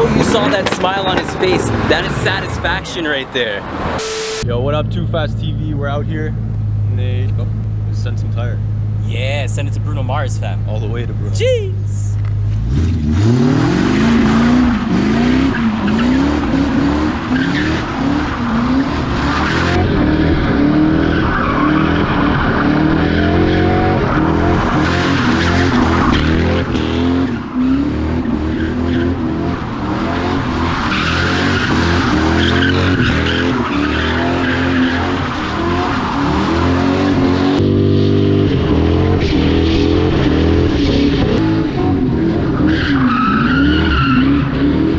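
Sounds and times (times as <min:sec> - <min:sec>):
car engine revving hard: 0:00.0 - 0:04.0, 0:12.5 - 0:44.9
tires squealing: 0:00.0 - 0:04.1, 0:11.3 - 0:44.9.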